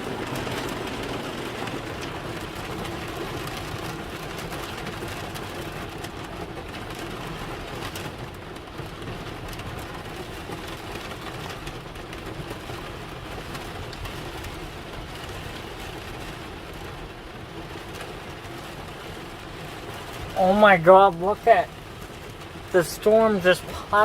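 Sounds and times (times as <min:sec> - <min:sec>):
rain on car: 0:00.0 - 0:24.0
tyres on wet pavement: 0:00.0 - 0:24.0.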